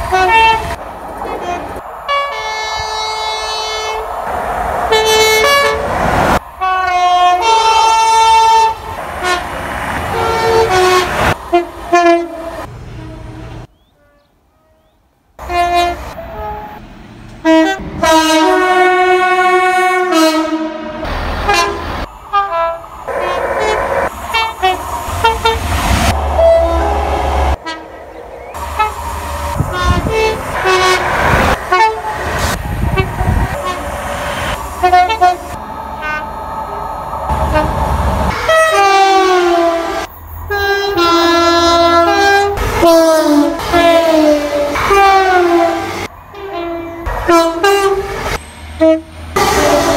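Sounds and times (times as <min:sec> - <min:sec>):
two-tone train horn blasts: 0:00.0 - 0:04.0, 0:04.9 - 0:05.9, 0:06.6 - 0:09.5, 0:10.1 - 0:16.8, 0:17.4 - 0:32.2, 0:32.8 - 0:33.9, 0:34.8 - 0:36.4, 0:37.3 - 0:49.9
trains running past: 0:00.0 - 0:49.9.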